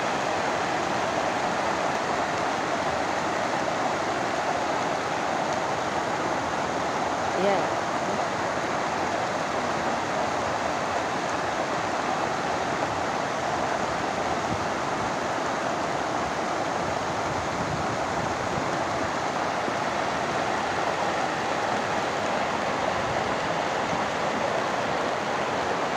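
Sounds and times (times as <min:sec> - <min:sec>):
floodwater rushing: 0:00.0 - 0:25.9.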